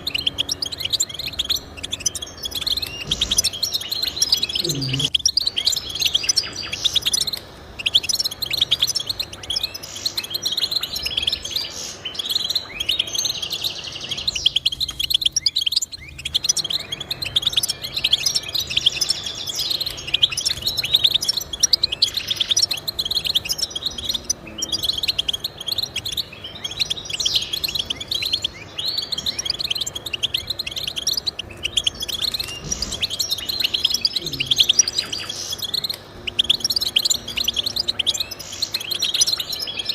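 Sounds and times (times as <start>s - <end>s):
finch twittering: 0.0s - 39.9s.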